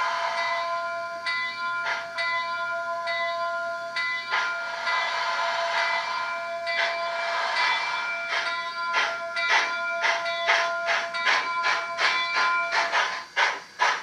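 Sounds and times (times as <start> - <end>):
steam hiss: 0.0 - 14.0
steam locomotive exhaust chuffs: 0.0 - 14.0
steady ringing tone: 0.2 - 13.2.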